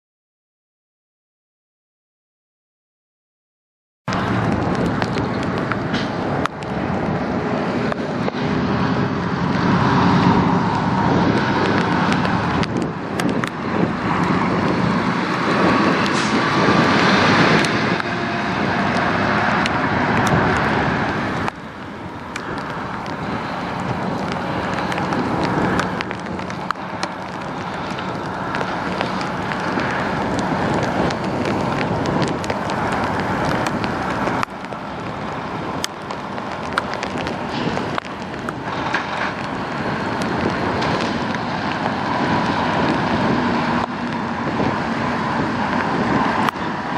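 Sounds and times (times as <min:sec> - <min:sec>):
truck diesel engine: 0:04.1 - 0:46.9
tyre and road noise: 0:04.1 - 0:46.9.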